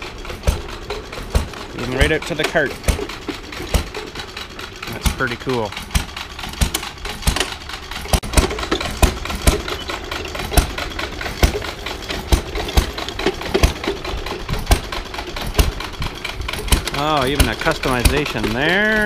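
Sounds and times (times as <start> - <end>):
hay baler knocking: 0.0 - 19.0
stationary gas engine running: 0.0 - 19.0.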